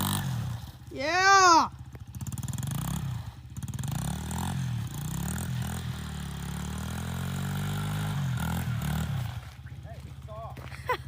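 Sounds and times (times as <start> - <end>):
motorbike engine revving: 0.0 - 10.7.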